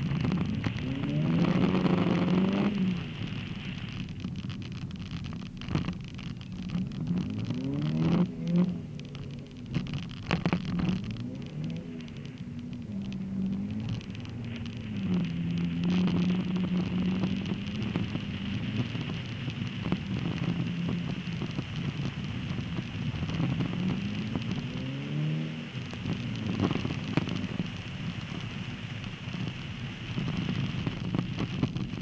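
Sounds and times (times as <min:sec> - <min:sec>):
car engine under changing throttle: 0:00.0 - 0:32.0
tyres crackling on packed snow: 0:00.0 - 0:32.0.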